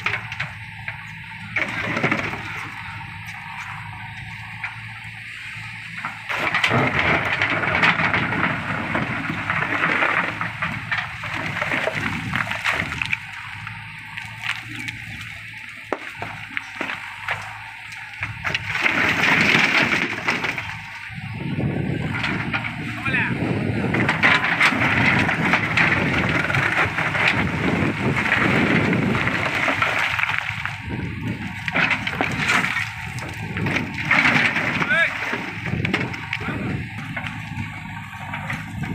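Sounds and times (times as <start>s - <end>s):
diesel engine running: 0.0s - 38.9s
rock and gravel crunching: 0.0s - 38.9s.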